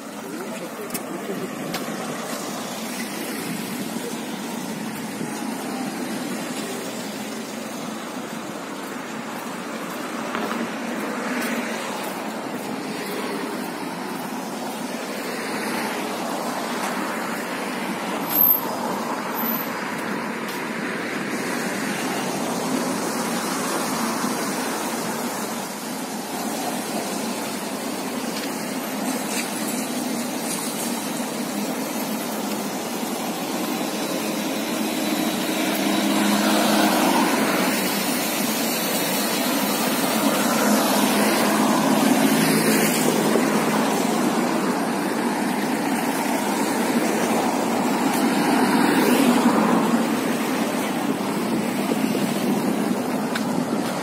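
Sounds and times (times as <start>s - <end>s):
rumble of traffic passing: 0.0s - 54.0s.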